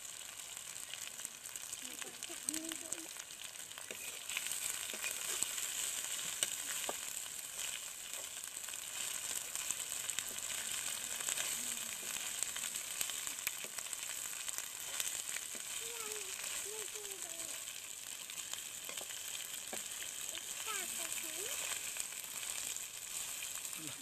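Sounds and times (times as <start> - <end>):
insects frying in oil: 0.0 - 24.0
metal spoon stirring in pan: 1.0 - 24.0.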